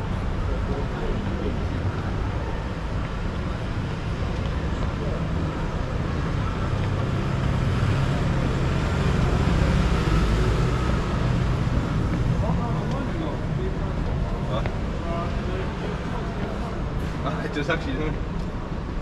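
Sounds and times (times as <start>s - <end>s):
faint voices: 0.0s - 19.0s
street noise: 0.0s - 19.0s
vehicle engine droning: 0.0s - 19.0s.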